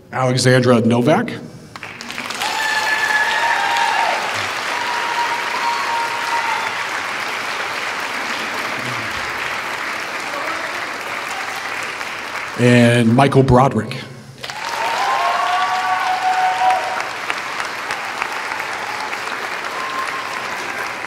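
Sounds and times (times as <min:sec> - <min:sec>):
audience applauding: 0:01.7 - 0:13.1, 0:14.4 - 0:21.0
crowd cheering: 0:01.8 - 0:12.7, 0:14.4 - 0:21.0.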